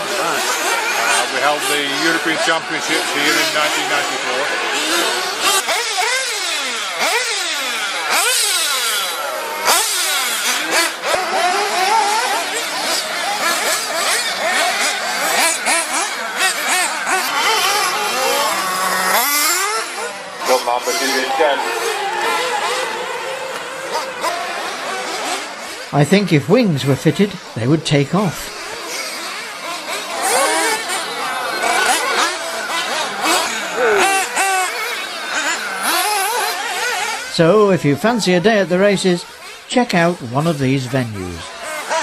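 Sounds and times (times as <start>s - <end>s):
model car engines revving: 0.0s - 42.0s.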